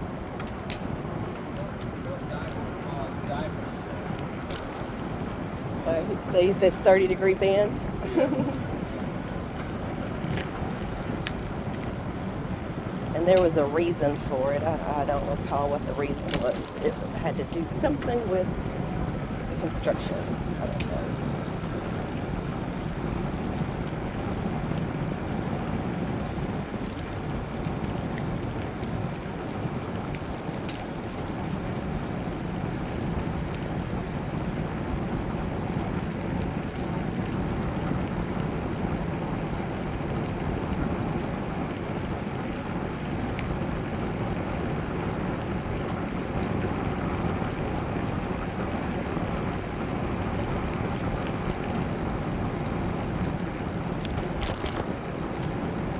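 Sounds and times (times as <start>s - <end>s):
bicycle tyres rolling: 0.0s - 55.9s.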